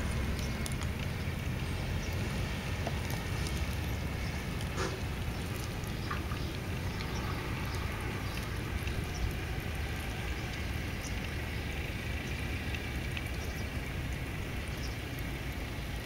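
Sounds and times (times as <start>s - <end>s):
kittens chewing and lapping: 0.0s - 16.0s
steady low rumble: 0.0s - 16.0s.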